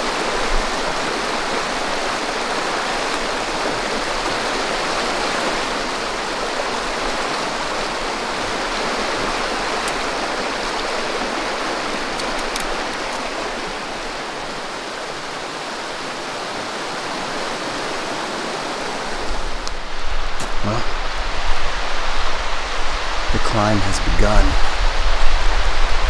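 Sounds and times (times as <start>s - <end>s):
creek rushing over rocks: 0.0s - 26.0s.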